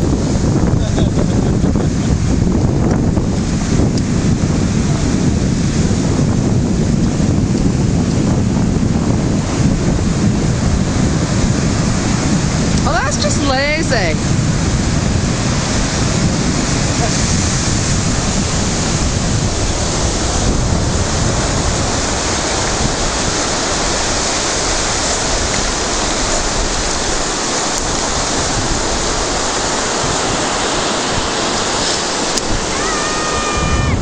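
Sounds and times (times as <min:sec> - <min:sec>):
sea surf breaking on beach: 0:00.0 - 0:34.0.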